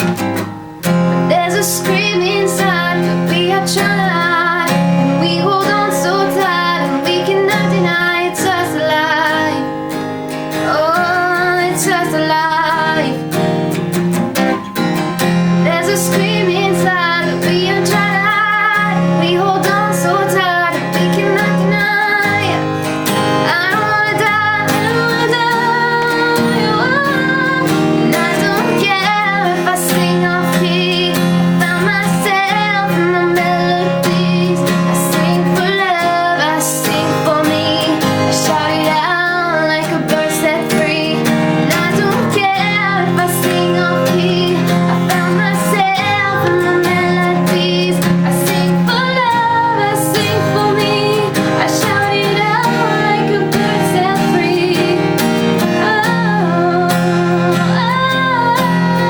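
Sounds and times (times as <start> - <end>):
acoustic guitar: 0.0 - 59.0
woman singing a pop ballad: 1.2 - 13.4, 15.5 - 59.0.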